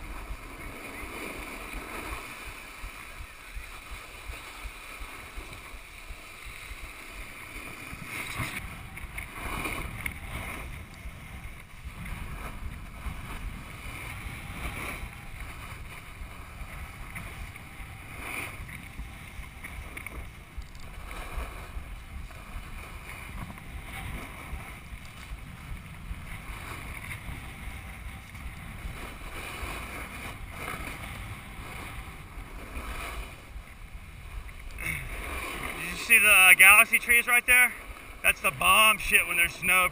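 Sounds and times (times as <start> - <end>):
snowboard edge scraping: 0.0 - 39.9
snowboard sliding over snow: 0.0 - 39.9
wind rumble on microphone: 0.0 - 39.9.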